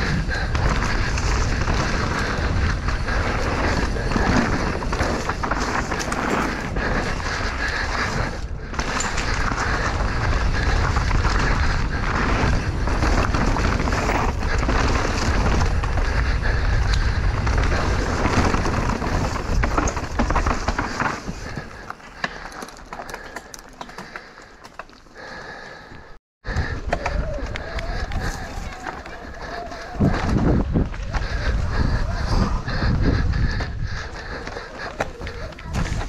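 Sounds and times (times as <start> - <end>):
wind rushing over microphone: 0.0 - 21.8, 26.4 - 36.0
bike rattling and knocking: 0.0 - 25.1, 26.5 - 36.0
tyres on dirt and rock: 0.0 - 36.0.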